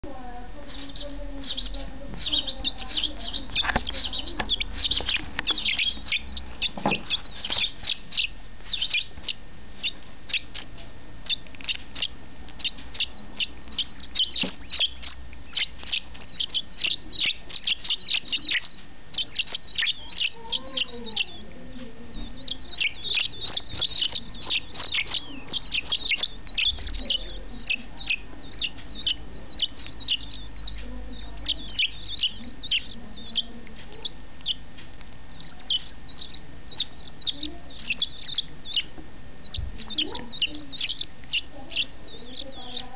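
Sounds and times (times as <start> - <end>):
bird chick begging chirps: 0.6 - 42.9.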